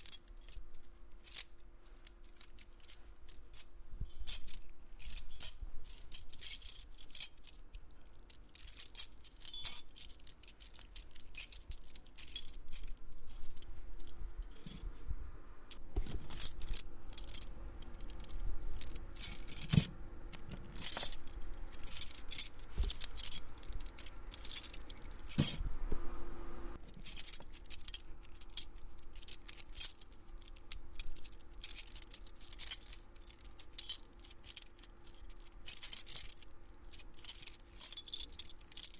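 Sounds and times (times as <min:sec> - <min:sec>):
metal keys jangling: 0:00.0 - 0:14.9, 0:16.1 - 0:25.6, 0:26.8 - 0:38.9.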